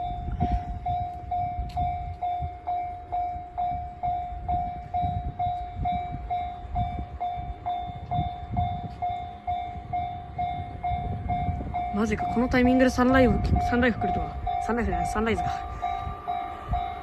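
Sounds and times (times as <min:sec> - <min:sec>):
electric train rumbling: 0:00.0 - 0:17.0
level crossing bell ringing: 0:01.0 - 0:17.0.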